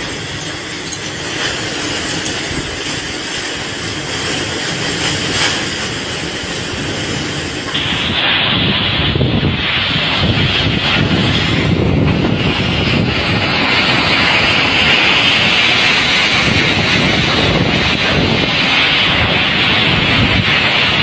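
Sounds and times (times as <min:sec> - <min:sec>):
heavy rain: 0:00.0 - 0:21.0
strong wind: 0:00.0 - 0:21.0.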